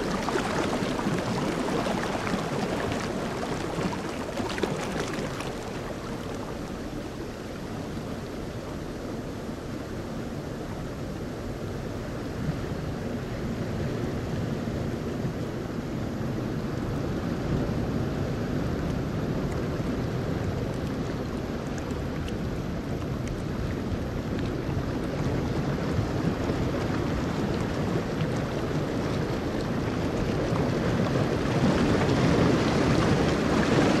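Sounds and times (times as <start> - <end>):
rushing water: 0.0 - 34.0
wind: 0.0 - 34.0.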